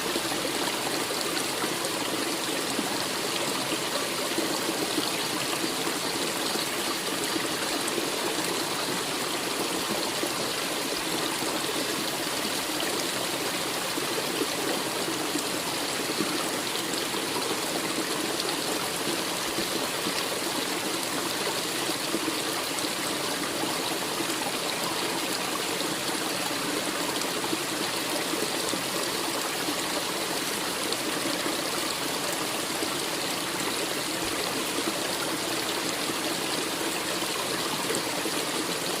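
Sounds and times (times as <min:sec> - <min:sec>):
stream rushing and trickling: 0:00.0 - 0:39.0.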